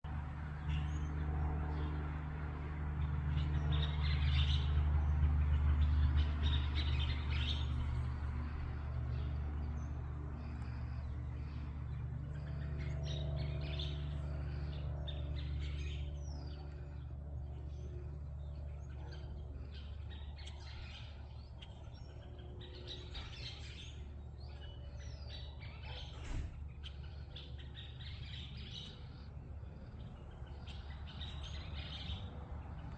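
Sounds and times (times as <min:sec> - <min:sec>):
low steady hum: 0:00.1 - 0:32.9
small birds chirping: 0:00.1 - 0:32.9.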